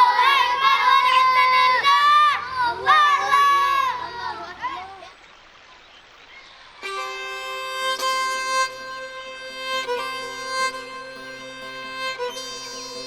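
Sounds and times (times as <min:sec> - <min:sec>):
bowed string long held notes: 0:00.0 - 0:05.4, 0:06.8 - 0:13.0.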